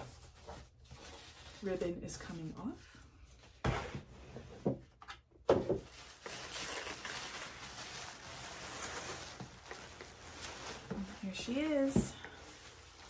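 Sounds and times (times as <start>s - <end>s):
tissue paper rustling: 0.0s - 3.6s, 5.8s - 13.0s.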